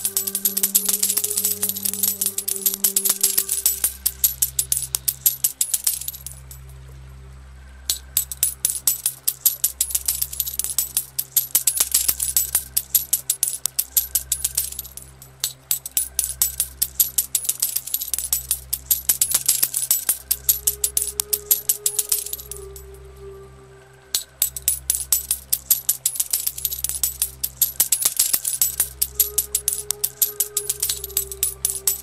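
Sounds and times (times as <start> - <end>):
coins dropping and clinking: 0.0 - 6.7, 7.9 - 22.8, 24.2 - 32.0
soft background music: 0.0 - 32.0.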